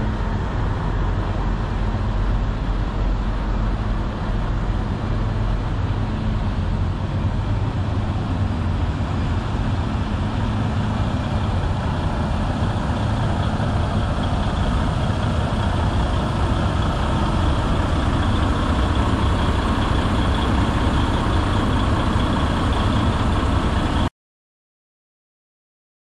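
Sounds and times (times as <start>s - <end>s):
truck engines idling: 0.0s - 24.1s.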